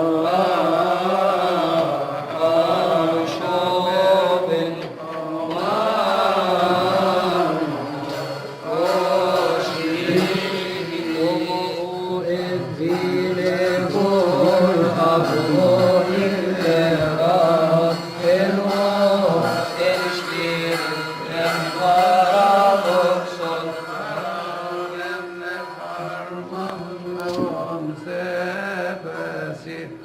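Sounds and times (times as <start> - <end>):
man chanting: 0.0 - 30.0.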